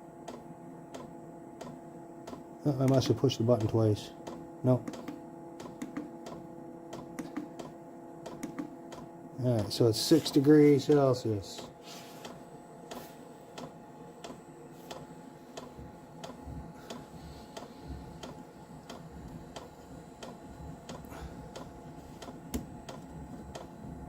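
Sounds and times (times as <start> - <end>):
heater humming: 0.0 - 24.0.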